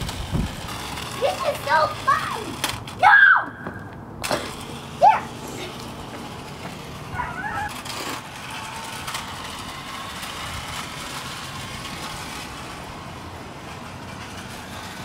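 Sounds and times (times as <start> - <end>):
toy car electric motor whirring: 0.0 - 3.2, 4.2 - 15.0.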